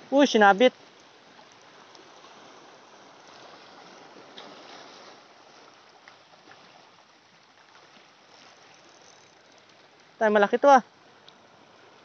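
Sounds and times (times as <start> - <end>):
shallow sea water lapping: 0.0 - 12.0.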